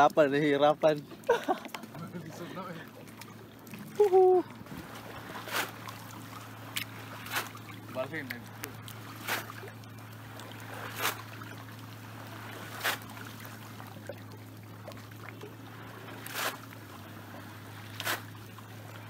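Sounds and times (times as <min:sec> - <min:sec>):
steady low hum: 0:00.0 - 0:19.0
water splashing around boat: 0:00.0 - 0:19.0.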